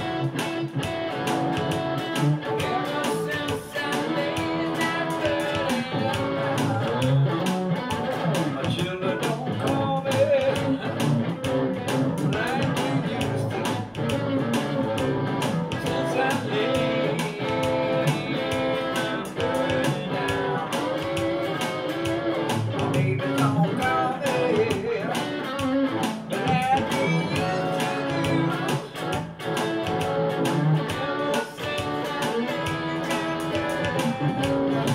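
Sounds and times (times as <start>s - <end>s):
electric guitar shuffle: 0.0s - 34.9s
steady beat: 0.0s - 34.9s.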